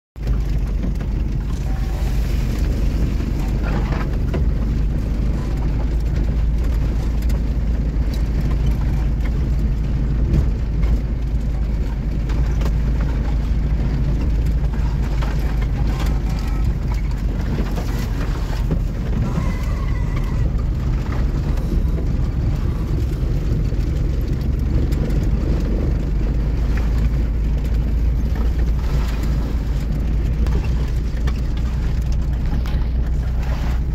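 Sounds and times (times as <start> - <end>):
car engine and tyres droning: 0.2 - 33.9.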